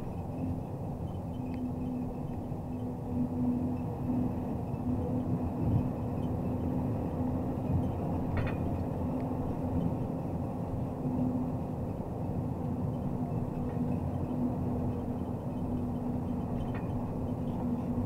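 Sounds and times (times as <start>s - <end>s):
diesel engine drone: 0.0s - 18.0s
road noise: 0.0s - 18.0s.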